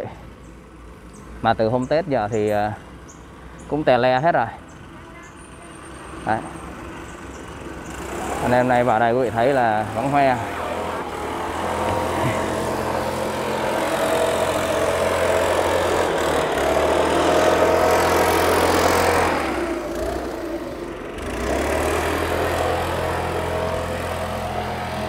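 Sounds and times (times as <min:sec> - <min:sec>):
small motorbike engine running: 0:02.2 - 0:25.0.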